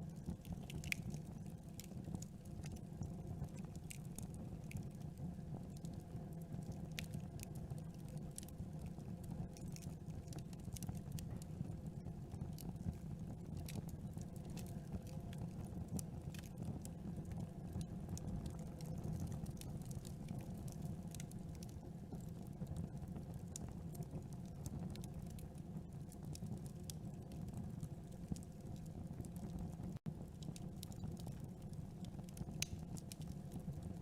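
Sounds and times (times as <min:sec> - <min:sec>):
low rumble of flames: 0:00.0 - 0:34.0
wood crackling and popping: 0:00.0 - 0:34.0.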